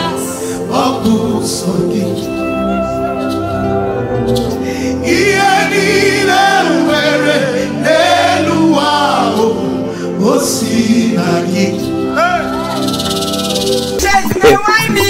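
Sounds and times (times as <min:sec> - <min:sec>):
choir singing: 0:00.0 - 0:14.6.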